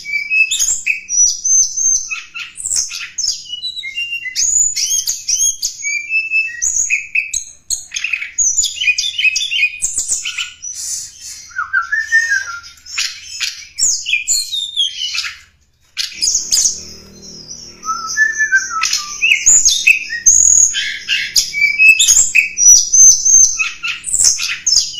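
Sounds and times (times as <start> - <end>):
bird chirping and whistling: 0.0 - 24.9.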